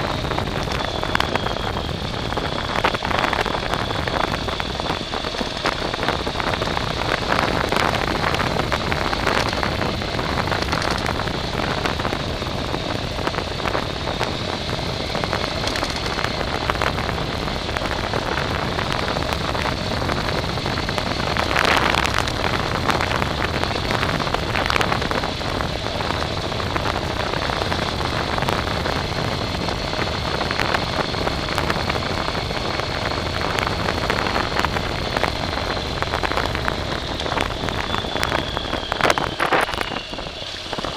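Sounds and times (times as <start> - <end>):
constant high whine: 0.0 - 40.9
vehicle rumbling over rough ground: 0.0 - 40.9.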